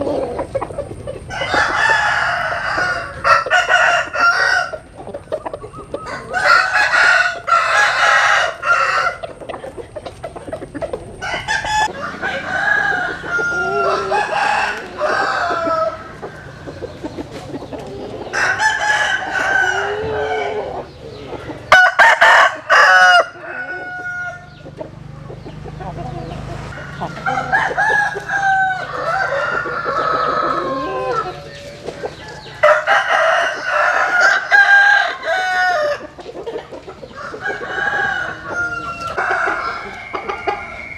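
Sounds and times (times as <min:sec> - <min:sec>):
chickens clucking: 0:00.0 - 0:40.9
roosters crowing: 0:00.0 - 0:40.9.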